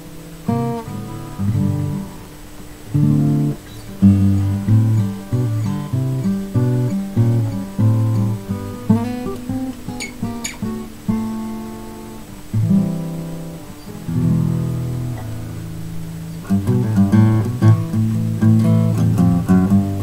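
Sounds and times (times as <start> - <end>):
acoustic guitar chords and picking: 0.0 - 20.0.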